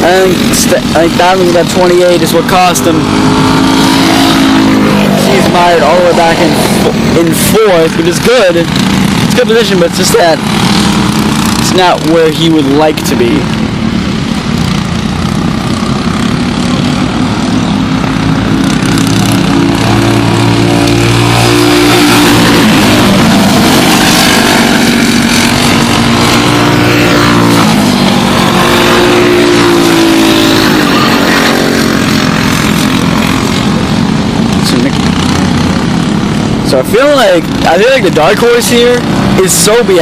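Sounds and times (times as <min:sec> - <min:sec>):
kart engines racing: 0:00.0 - 0:40.0.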